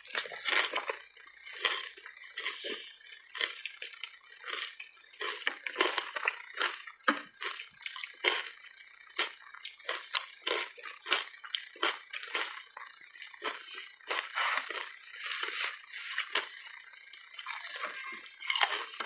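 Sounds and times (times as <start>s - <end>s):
wet sticky chewing of ice: 0.0s - 19.0s.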